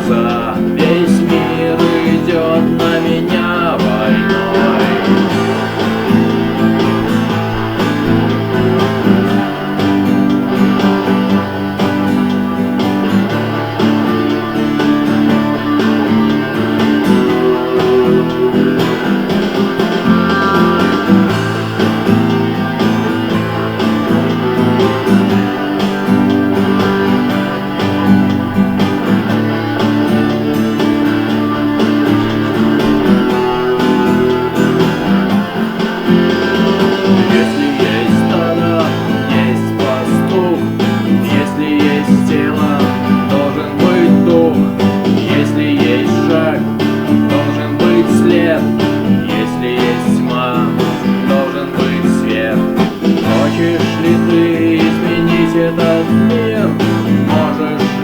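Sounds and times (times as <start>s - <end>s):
rock guitars strummed and picked: 0.0s - 58.0s.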